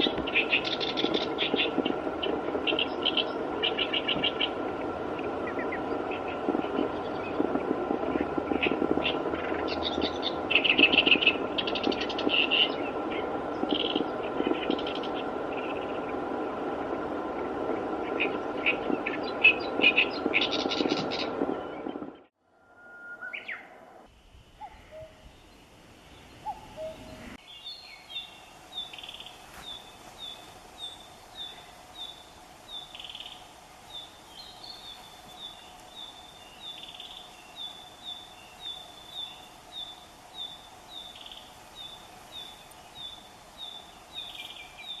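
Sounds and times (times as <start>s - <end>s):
bird chirping: 0.0s - 7.5s, 8.4s - 16.2s, 18.1s - 24.0s, 24.6s - 45.0s.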